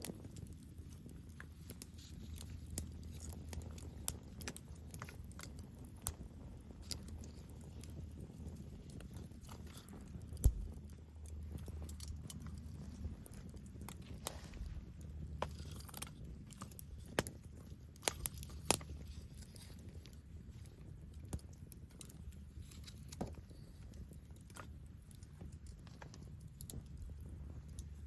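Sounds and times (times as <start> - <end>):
campfire crackling and popping: 0.0 - 28.0
low steady rumble: 0.4 - 28.0.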